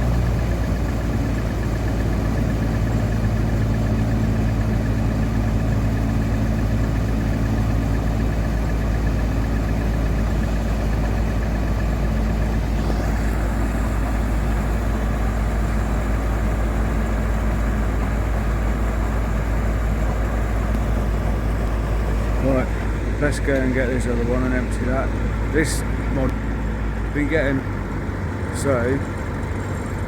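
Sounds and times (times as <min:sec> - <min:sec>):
combine harvester engine drone: 0:00.0 - 0:30.0.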